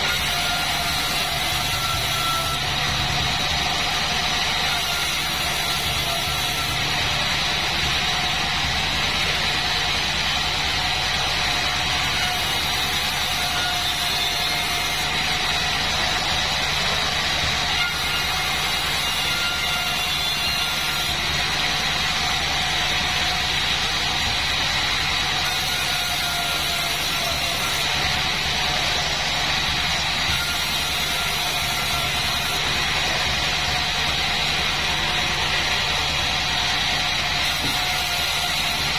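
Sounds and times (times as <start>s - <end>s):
saw high whine: 0.0s - 38.9s
sawmill motor hum: 0.0s - 38.9s.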